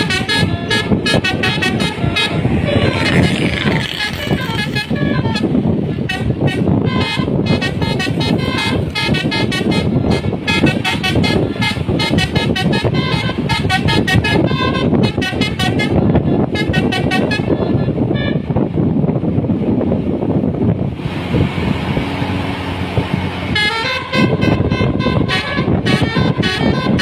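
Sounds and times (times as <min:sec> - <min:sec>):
multi-note bus horn melody: 0:00.0 - 0:18.8, 0:22.8 - 0:27.0
road and engine rumble: 0:00.0 - 0:27.0.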